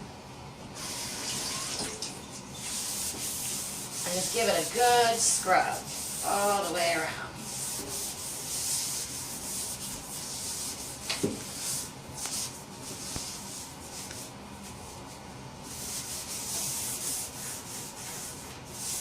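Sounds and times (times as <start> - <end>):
scrubbing sink basin: 0.9 - 14.3, 15.0 - 19.0.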